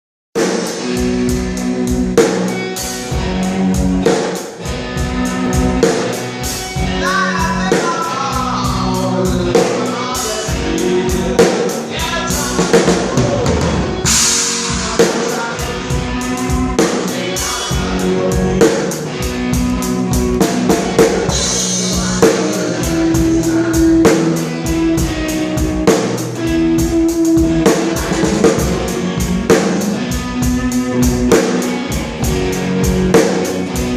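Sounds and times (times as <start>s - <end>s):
bass guitar: 0.4s - 33.9s
drum kit beat: 0.4s - 33.9s
electric guitar: 0.4s - 33.9s.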